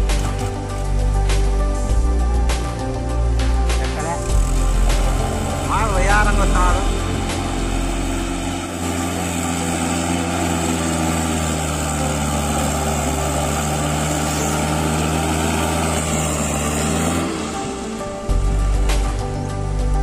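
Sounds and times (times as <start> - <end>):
tractor diesel engine passing: 0.0 - 20.0.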